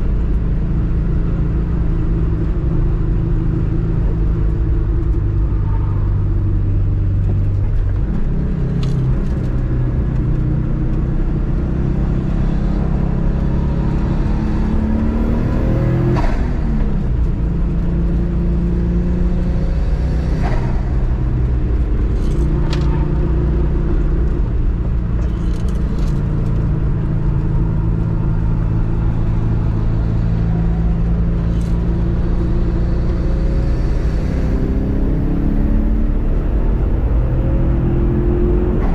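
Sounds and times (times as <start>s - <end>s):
car engine revving through gears: 4.1s - 38.9s.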